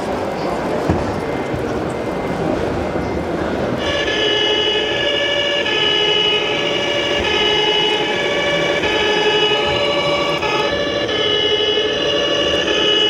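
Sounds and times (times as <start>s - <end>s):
two-tone emergency siren: 1.5s - 13.0s.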